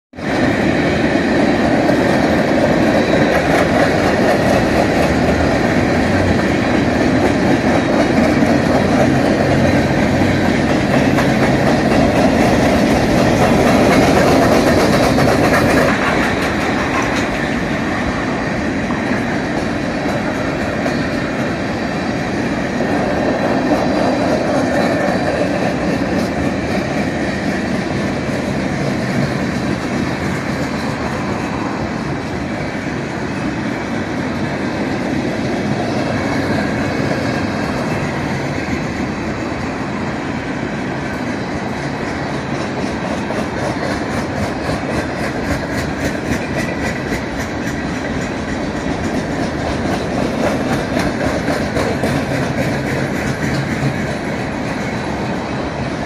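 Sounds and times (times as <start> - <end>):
steel wheels clattering on rails: 0.2 - 56.0.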